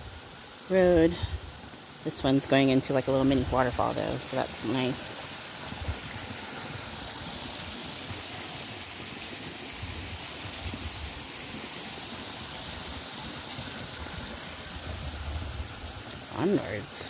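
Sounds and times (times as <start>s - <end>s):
low rumble of waterfall: 0.0s - 17.0s
water rushing: 0.0s - 17.0s.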